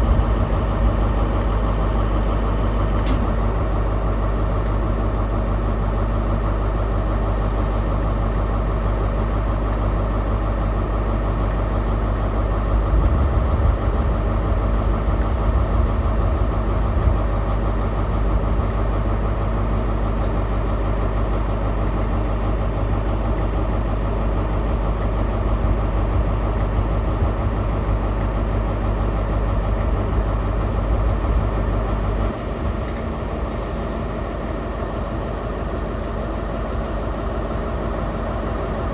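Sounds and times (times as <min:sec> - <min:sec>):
diesel train engine idling: 0:00.0 - 0:38.9.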